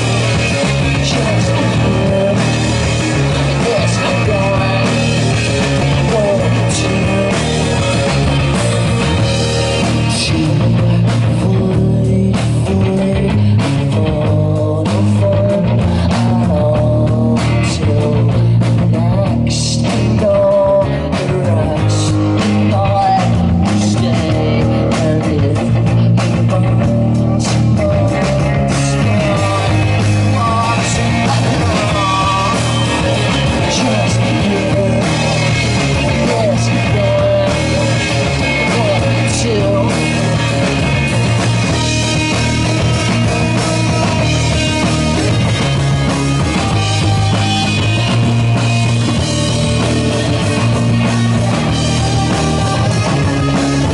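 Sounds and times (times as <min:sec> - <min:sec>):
live psychedelic rock band: 0:00.0 - 0:53.9.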